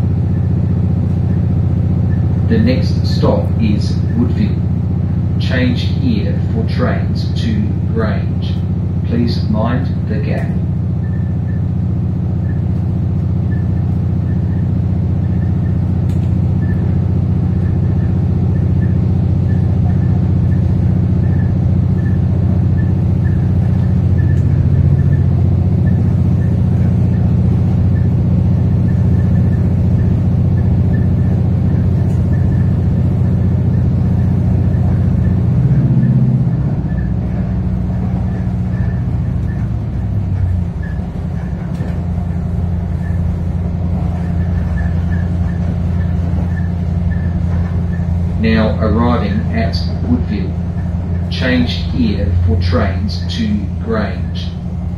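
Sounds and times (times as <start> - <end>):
diesel railcar drone from inside: 0.0 - 54.9.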